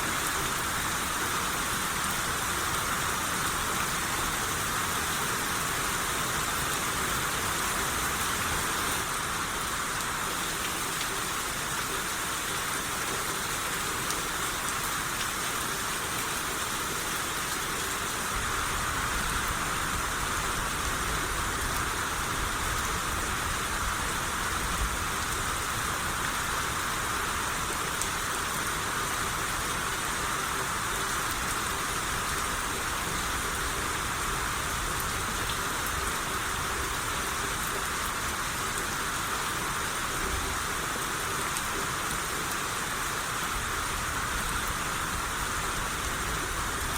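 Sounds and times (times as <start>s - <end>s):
rain shower hissing: 0.0s - 46.9s.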